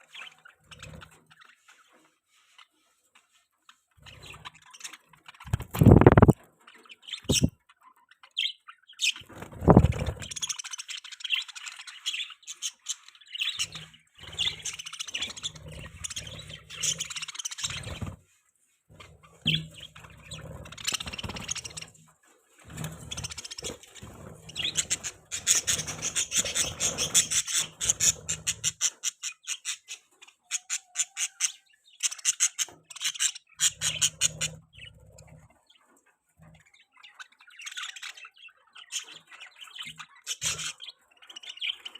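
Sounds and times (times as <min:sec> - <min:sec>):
budgies chirping: 0:00.0 - 0:02.8, 0:03.9 - 0:18.2, 0:19.0 - 0:22.1, 0:22.7 - 0:41.9.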